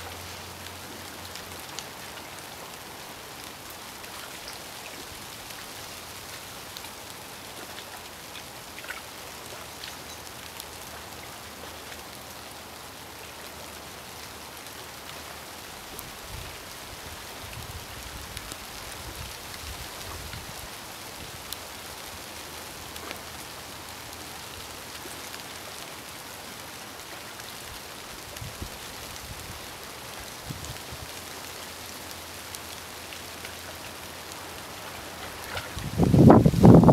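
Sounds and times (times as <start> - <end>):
steady outdoor hiss: 0.0 - 36.9.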